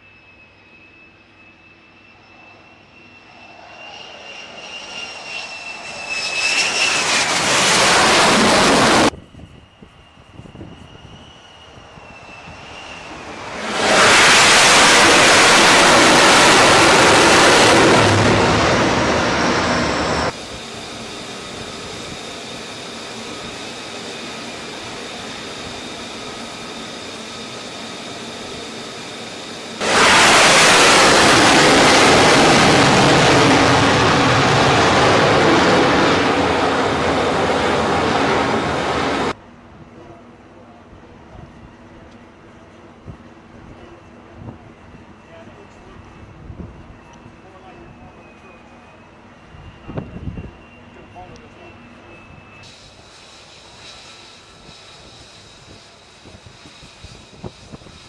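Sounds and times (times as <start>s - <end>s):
jet engine roaring: 0.0s - 39.4s, 44.6s - 58.0s
steady jet whine: 0.0s - 58.0s.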